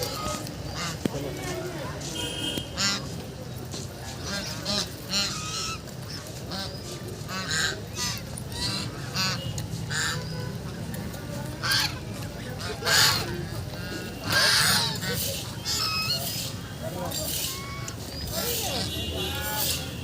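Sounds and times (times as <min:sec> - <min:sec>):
ducks calling: 0:00.0 - 0:20.0.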